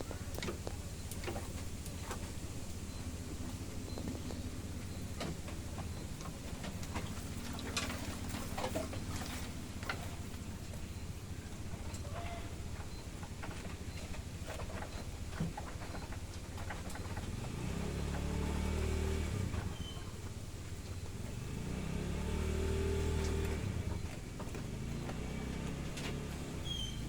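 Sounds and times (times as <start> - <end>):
vehicle engines passing: 0.0 - 27.0.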